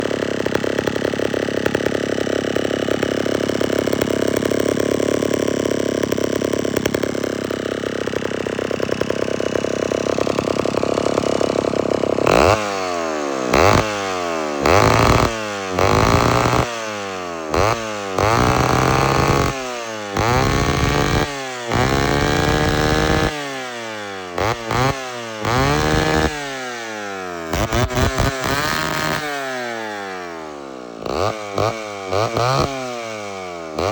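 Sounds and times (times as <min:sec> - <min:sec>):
two-stroke chainsaw running and revving: 0:00.0 - 0:33.9.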